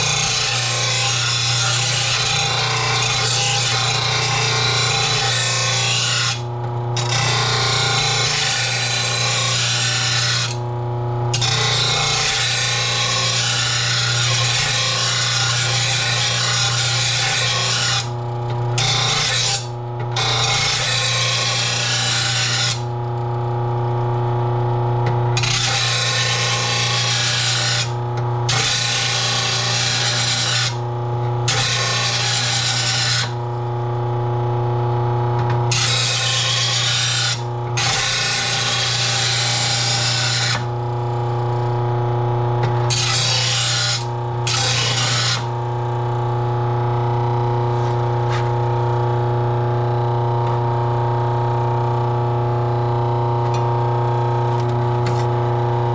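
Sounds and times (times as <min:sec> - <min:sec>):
electric grinder motor hum: 0:00.0 - 0:55.9.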